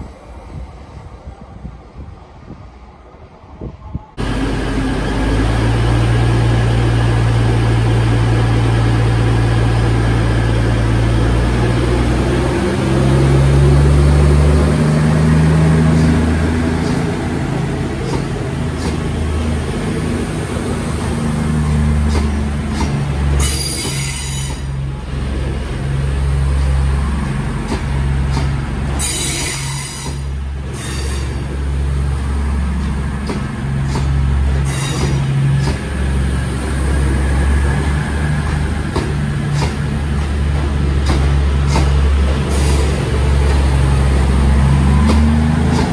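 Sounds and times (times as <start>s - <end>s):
diesel train engines revving: 0.0s - 45.9s.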